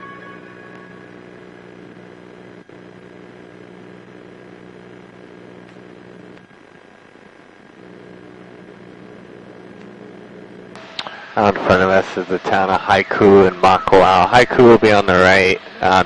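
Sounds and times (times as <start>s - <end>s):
intercom hum and hiss: 0.0s - 16.0s.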